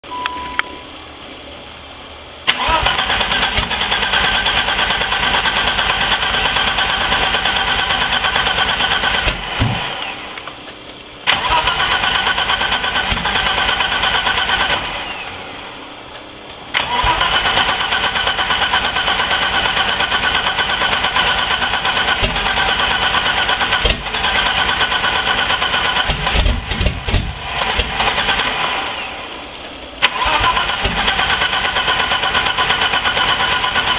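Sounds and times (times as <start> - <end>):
car engine starting and revving: 2.4 - 10.4, 11.2 - 15.8, 16.7 - 33.9.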